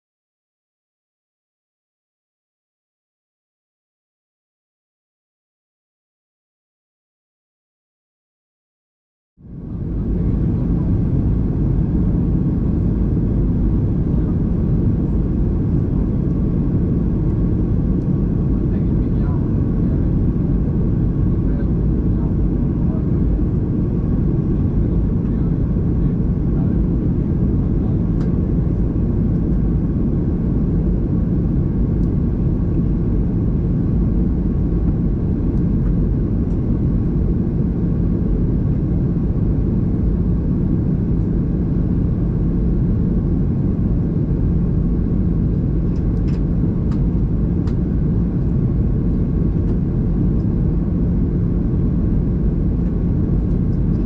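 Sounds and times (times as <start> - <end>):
airliner cabin engine and airflow noise: 9.4 - 54.0.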